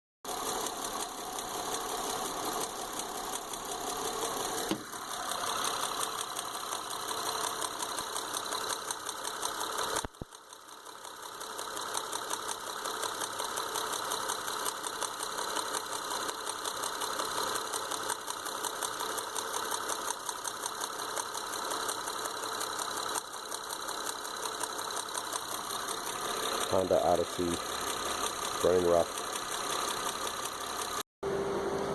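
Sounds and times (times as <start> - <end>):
car engine idling rough: 0.3 - 31.0.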